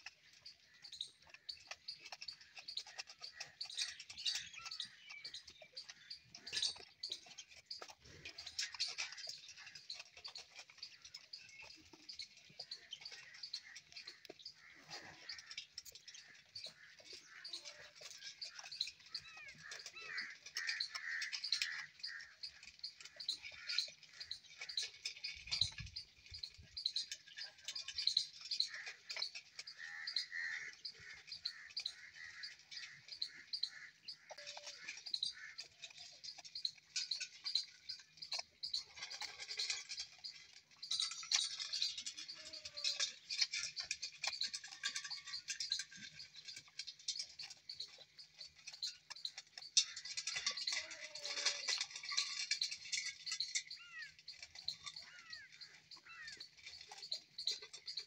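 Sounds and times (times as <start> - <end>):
small birds chirping and chattering: 0.0 - 58.0.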